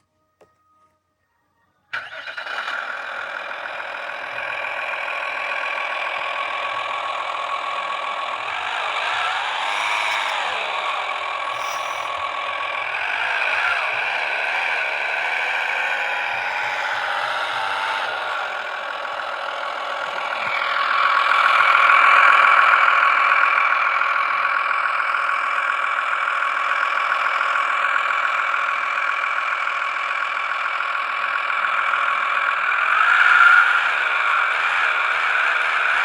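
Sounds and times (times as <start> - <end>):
simulated truck engine from speaker: 1.9 - 36.0.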